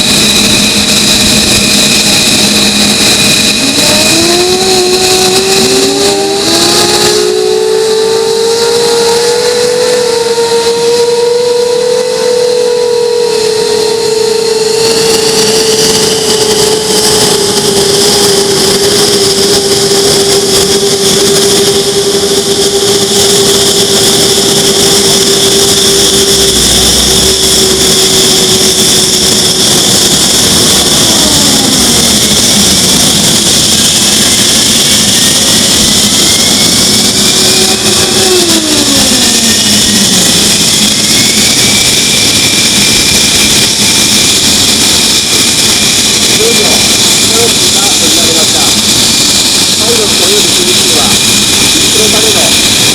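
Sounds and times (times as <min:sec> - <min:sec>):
jet engine turbine whine: 0:00.0 - 0:52.9
low tone sliding down: 0:00.0 - 0:52.9.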